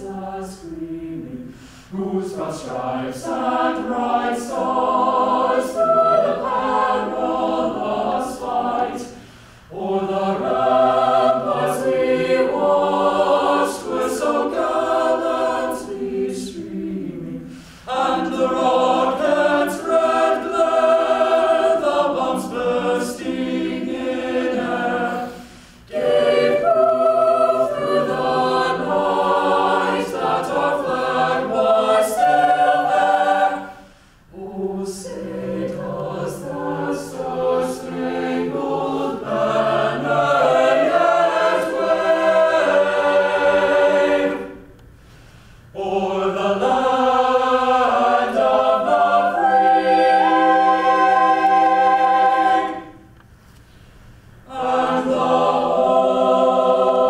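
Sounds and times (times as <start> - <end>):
choir singing: 0.0 - 44.8, 45.7 - 53.2, 54.4 - 57.0.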